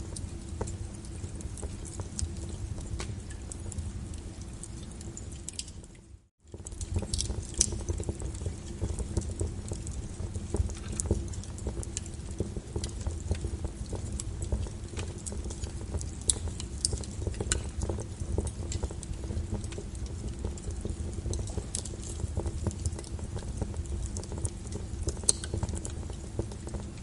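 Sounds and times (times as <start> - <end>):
burning logs crackling and popping: 0.0 - 27.0
fire rumbling: 0.0 - 27.0.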